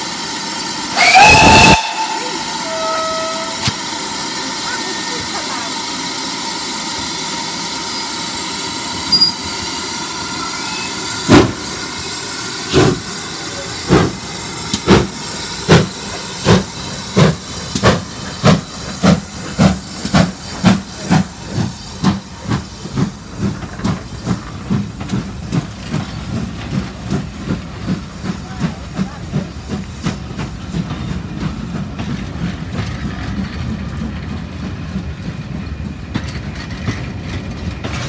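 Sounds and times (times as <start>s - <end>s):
steam hiss: 0.0s - 35.4s
steam locomotive exhaust chuffs: 0.0s - 38.0s.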